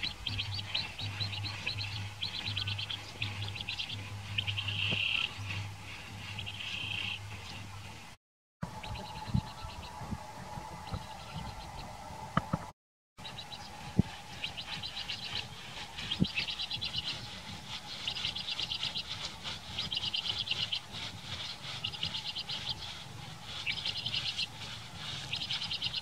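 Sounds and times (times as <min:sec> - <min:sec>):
bird chirping in high trills: 0:00.0 - 0:07.7, 0:08.6 - 0:12.2, 0:13.2 - 0:26.0.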